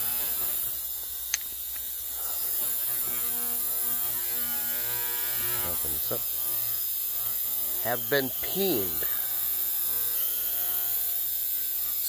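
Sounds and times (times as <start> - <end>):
ultrasonic cleaner buzzing hum: 0.0 - 12.0.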